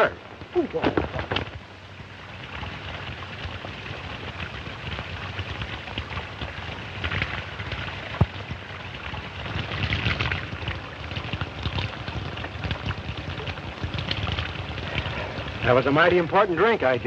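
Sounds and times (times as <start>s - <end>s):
old film soundtrack hiss and crackle: 0.0s - 17.0s
water splashing: 0.0s - 17.0s.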